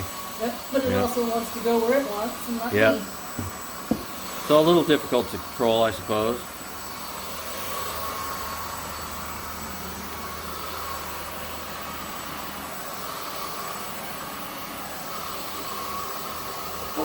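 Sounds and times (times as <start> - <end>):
stick vacuum whining: 0.0 - 17.0.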